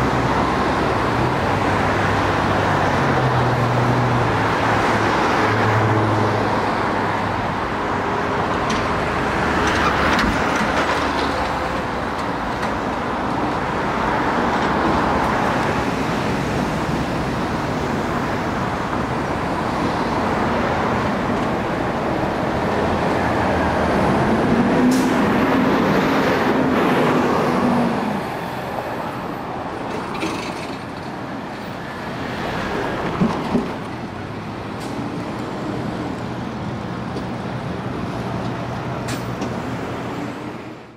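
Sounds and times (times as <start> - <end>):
traffic passing: 0.0 - 40.9.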